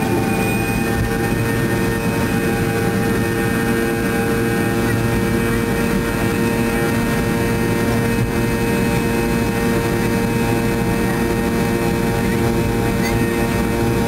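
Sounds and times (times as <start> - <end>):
jet engine whine and rumble: 0.0 - 14.0.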